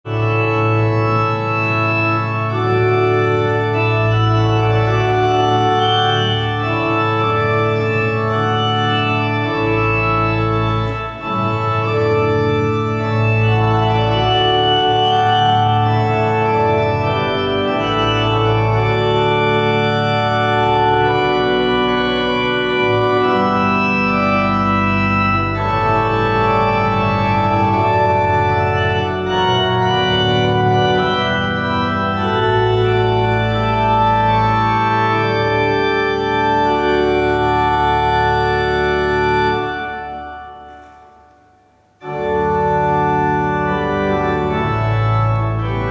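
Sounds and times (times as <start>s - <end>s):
organ playing slow chords: 0.1s - 45.9s.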